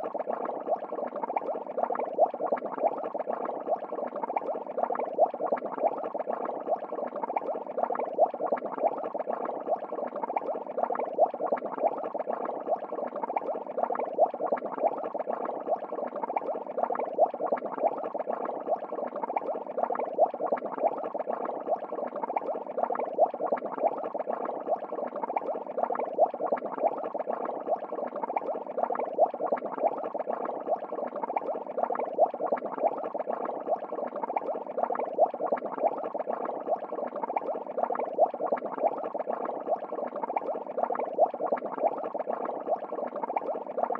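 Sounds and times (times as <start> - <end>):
aquarium water bubbling: 0.0 - 43.9.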